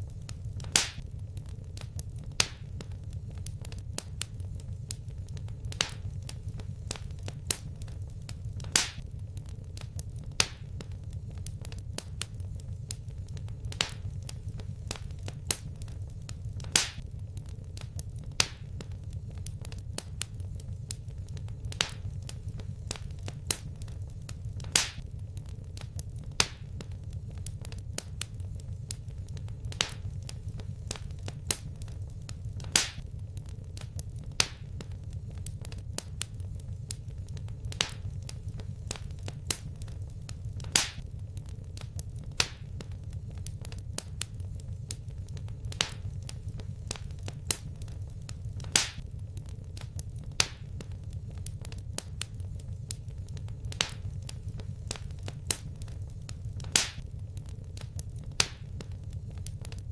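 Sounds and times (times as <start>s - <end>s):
fire crackling and popping: 0.0s - 59.9s
low fire rumble: 0.0s - 59.9s.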